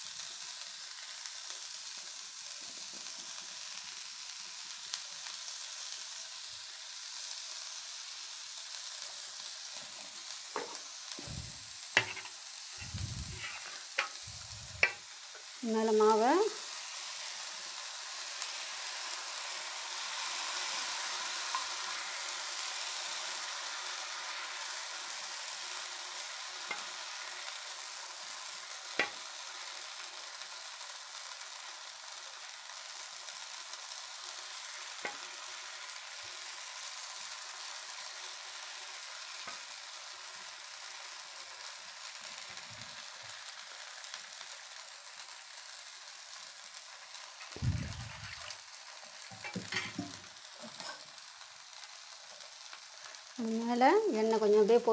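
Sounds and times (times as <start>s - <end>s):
batter sizzling on hot pan: 0.0s - 54.9s.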